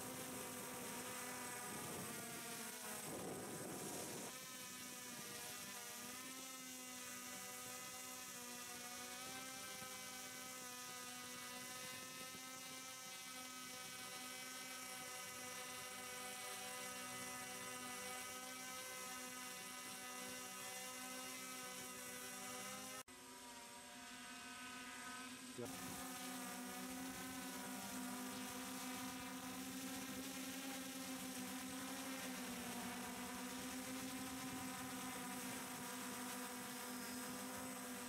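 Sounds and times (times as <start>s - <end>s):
multicopter motors whining: 0.0s - 38.0s.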